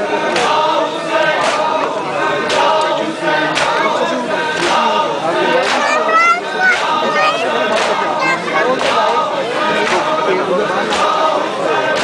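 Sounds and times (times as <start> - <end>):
men chanting together: 0.0 - 12.0.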